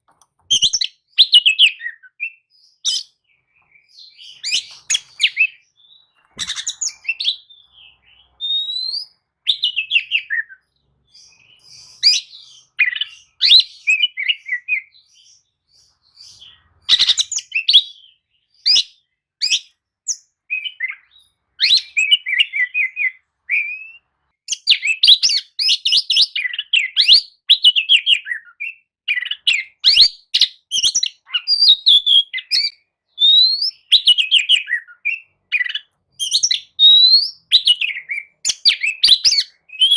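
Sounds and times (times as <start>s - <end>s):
magpie-robin singing: 0.4s - 39.9s.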